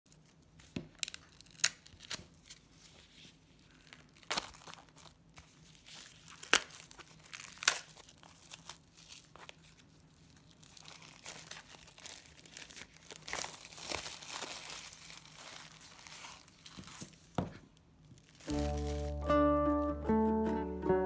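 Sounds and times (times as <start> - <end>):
plastic shrink wrap crinkling: 0.1 - 19.5.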